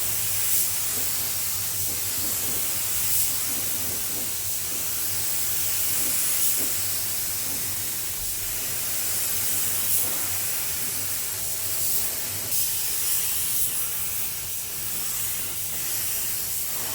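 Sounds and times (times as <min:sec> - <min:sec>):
spray gun hissing: 0:00.0 - 0:16.9.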